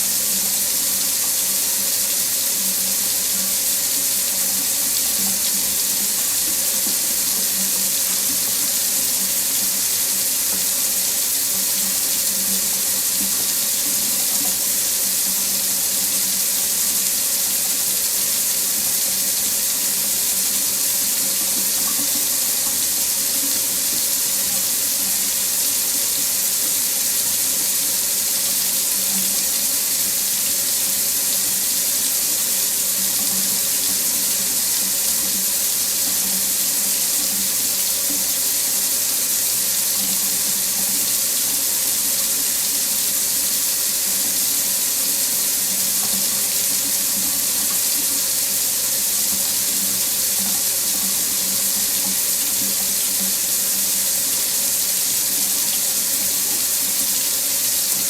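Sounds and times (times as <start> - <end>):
water tap running into sink: 0.0 - 58.0.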